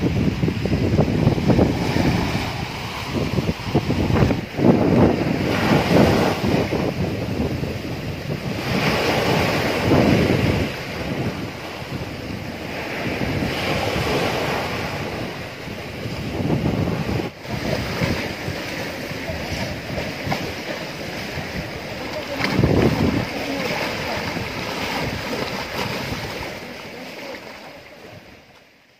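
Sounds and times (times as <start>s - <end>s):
small waves breaking on sand: 0.0s - 28.9s.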